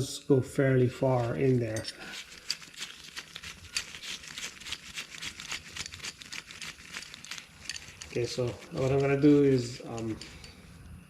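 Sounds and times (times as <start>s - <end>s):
metal clicks and scrapes: 1.2s - 10.7s.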